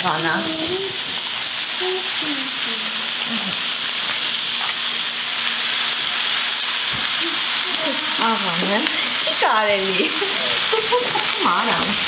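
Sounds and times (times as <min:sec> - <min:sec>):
mushrooms sizzling in oil: 0:00.0 - 0:12.0
spinach leaves piled in by hand: 0:00.0 - 0:12.0.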